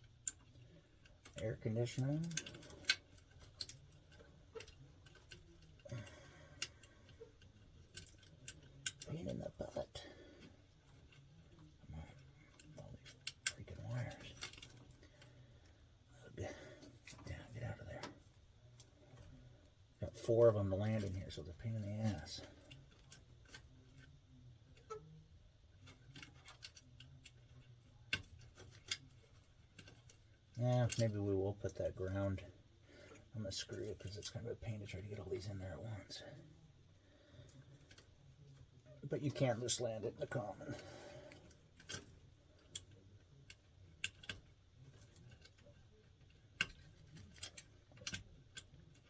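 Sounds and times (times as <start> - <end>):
wires rubbing and clicking: 0.0 - 49.0.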